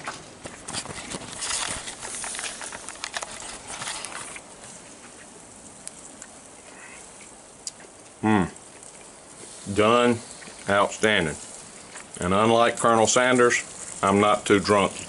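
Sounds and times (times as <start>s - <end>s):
faint steady hiss: 0.0s - 15.0s
rustling and crackling: 0.0s - 15.0s.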